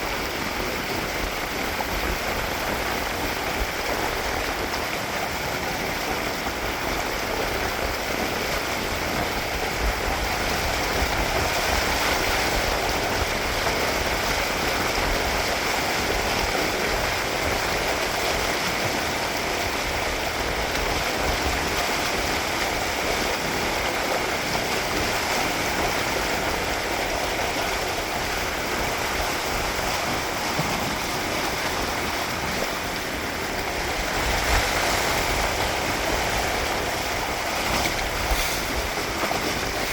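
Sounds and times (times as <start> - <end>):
water rushing past hulls: 0.0 - 39.9
wind rumbling on microphone: 0.0 - 39.9.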